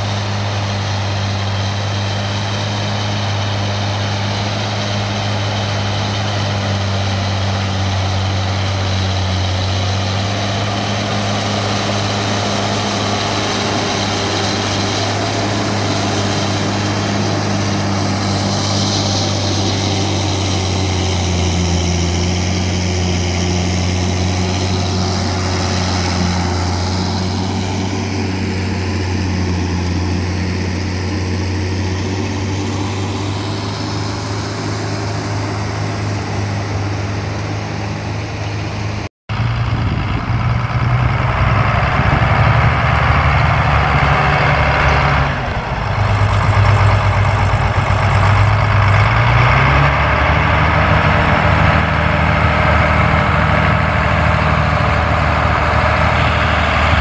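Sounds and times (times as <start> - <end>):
tractor diesel engine working: 0.0 - 57.0.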